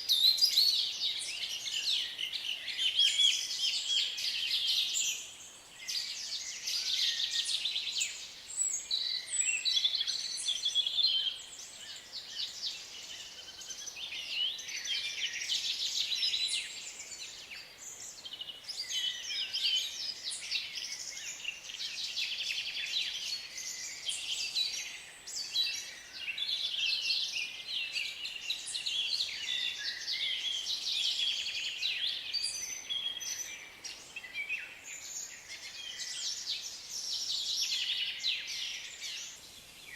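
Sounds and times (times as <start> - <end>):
faint steady hiss: 0.0 - 39.9
small birds singing and chirping: 0.0 - 39.9.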